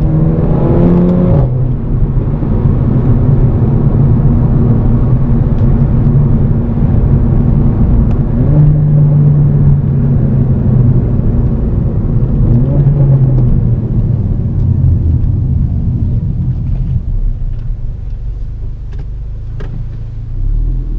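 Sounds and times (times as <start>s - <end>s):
car engine running: 0.0s - 20.9s
road rumble: 0.0s - 20.9s.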